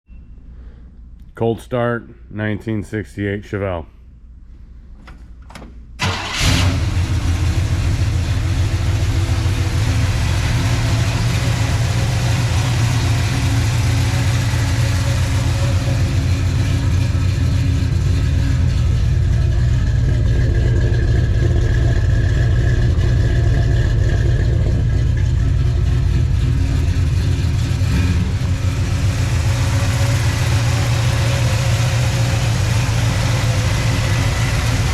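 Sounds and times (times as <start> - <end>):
car engine starting and idling: 5.9 - 34.9.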